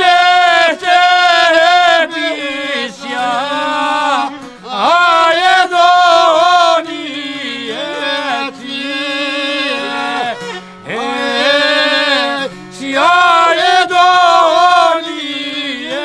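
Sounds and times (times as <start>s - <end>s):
long-necked lute: 0.0s - 16.0s
men singing in close harmony: 0.0s - 16.0s
violins: 0.0s - 16.0s.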